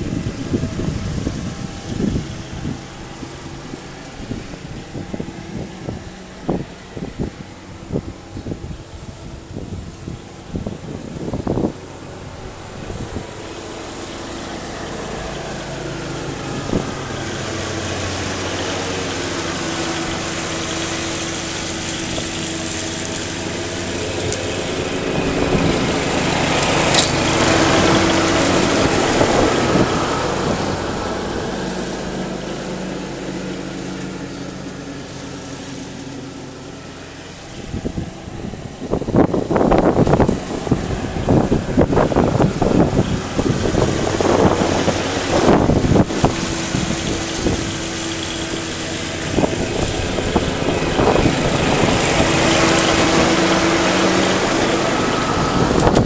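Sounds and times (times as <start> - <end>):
wind buffeting microphone: 0.0 - 36.0, 36.6 - 56.0
riding lawn mower running: 0.0 - 56.0.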